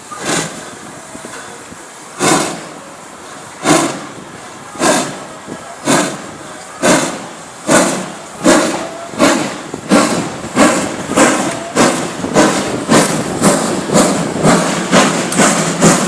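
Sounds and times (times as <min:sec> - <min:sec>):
steam hissing: 0:00.0 - 0:16.0
steam locomotive chuffing: 0:00.0 - 0:16.0.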